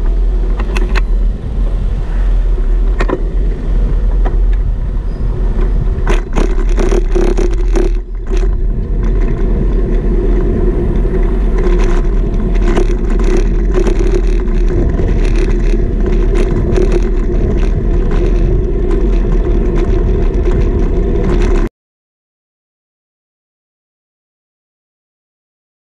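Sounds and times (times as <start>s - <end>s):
bicycle rattles and knocks: 0.0s - 21.7s
road rumble: 0.0s - 21.7s
wind buffeting microphone: 0.0s - 21.7s.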